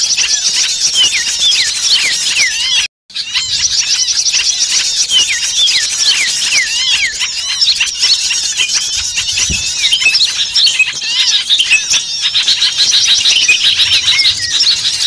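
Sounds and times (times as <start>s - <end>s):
small birds chirping and whistling: 0.0s - 15.0s.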